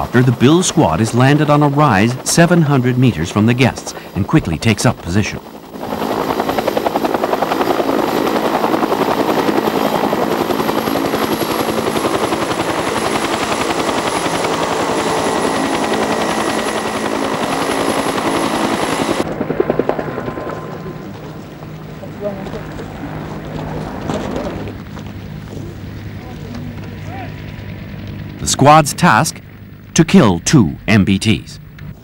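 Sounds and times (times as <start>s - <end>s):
helicopter rotor beat: 0.0s - 32.0s
turbine whine: 0.0s - 32.0s.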